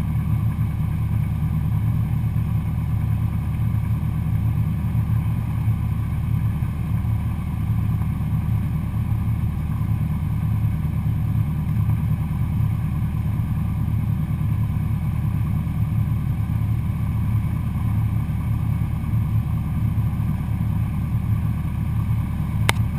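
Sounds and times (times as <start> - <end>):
light aircraft engine droning: 0.0 - 22.9.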